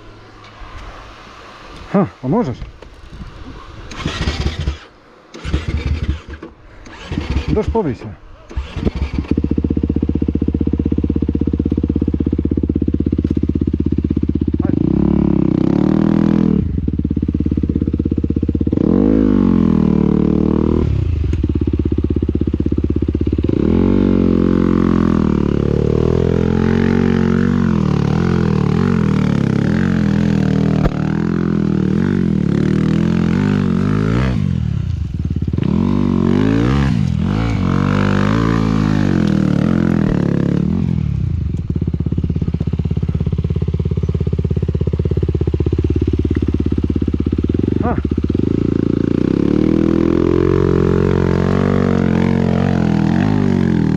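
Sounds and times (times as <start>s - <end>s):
motorcycle engine revving: 3.4s - 53.9s.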